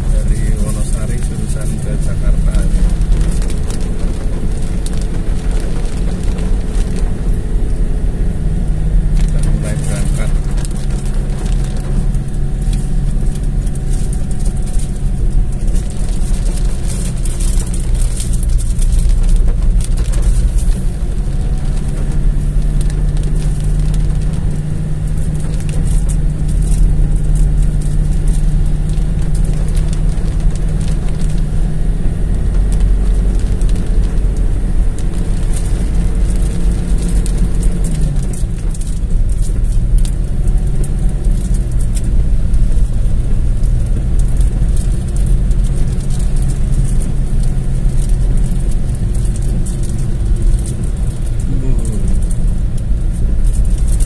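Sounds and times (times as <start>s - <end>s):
car engine running: 0.0s - 54.0s
heavy rain on car roof: 0.0s - 54.0s.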